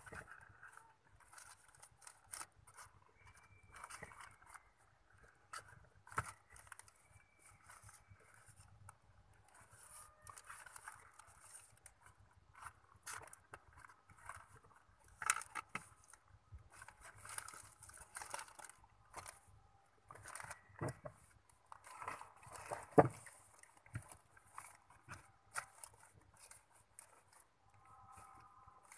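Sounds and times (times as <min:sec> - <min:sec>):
cats rustling plastic and paper: 0:00.0 - 0:28.9.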